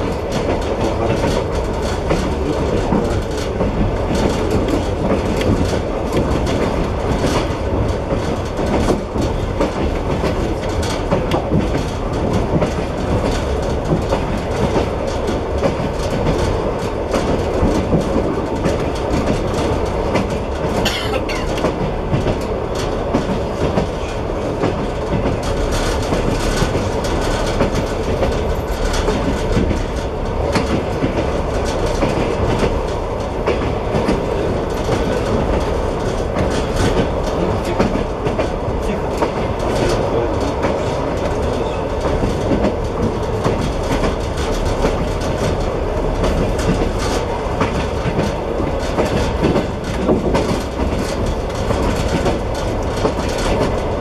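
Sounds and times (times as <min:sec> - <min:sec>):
rail joint clicks: 0:00.0 - 0:54.0
train wheels rumbling on rails: 0:00.0 - 0:54.0.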